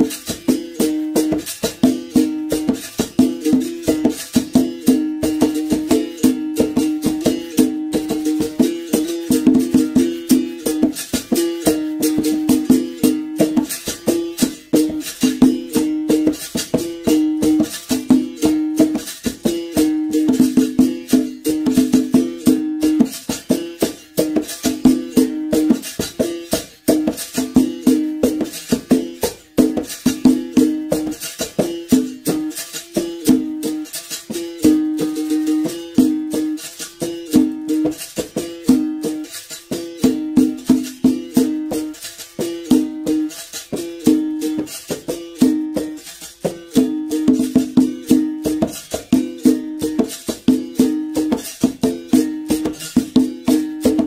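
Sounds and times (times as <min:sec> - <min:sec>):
berimbau played: 0:00.0 - 0:54.0
shaker rattle: 0:00.0 - 0:54.0.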